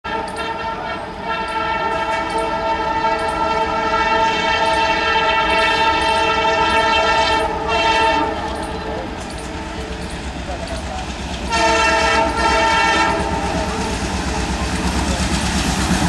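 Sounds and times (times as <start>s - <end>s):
locomotive horn blast: 0.0s - 10.0s, 11.3s - 16.0s.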